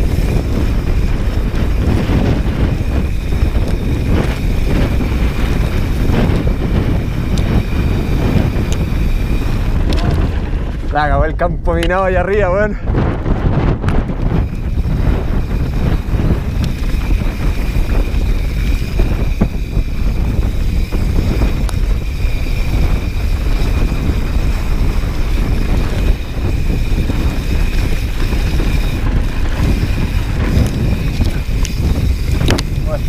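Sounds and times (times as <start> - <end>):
bike tyres rolling on dirt: 0.0 - 33.0
wind buffeting microphone: 0.0 - 33.0.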